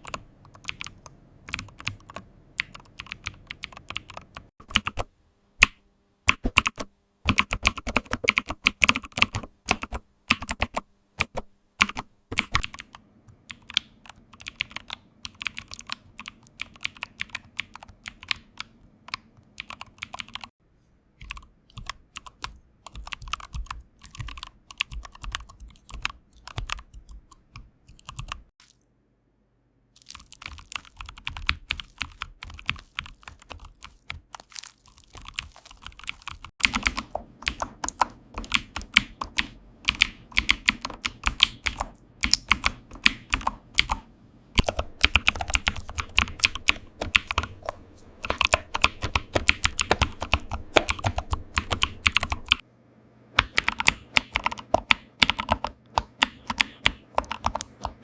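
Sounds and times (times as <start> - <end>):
computer keyboard typing: 0.0 - 5.0, 7.3 - 20.5, 21.2 - 28.8, 30.0 - 44.0, 44.6 - 52.6, 53.4 - 58.0.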